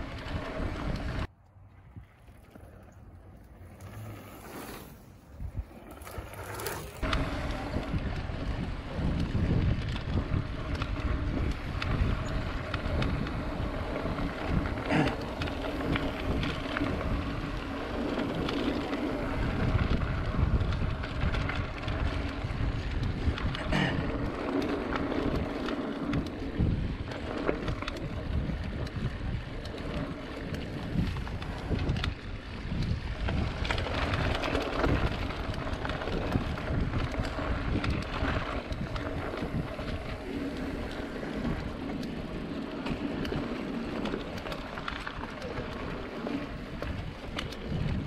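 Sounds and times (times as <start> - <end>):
bike knocking and rattling: 1.9 - 48.0
wind buffeting microphone: 6.9 - 48.0.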